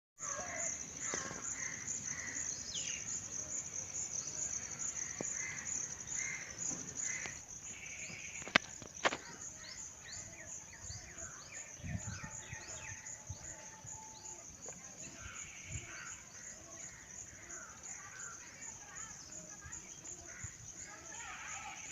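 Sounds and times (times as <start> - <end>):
birds calling: 0.2 - 21.9.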